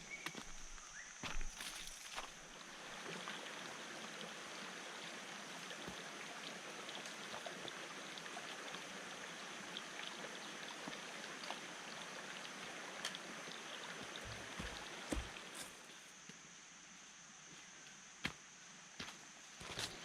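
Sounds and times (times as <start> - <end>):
stream water flowing: 0.0 - 16.1.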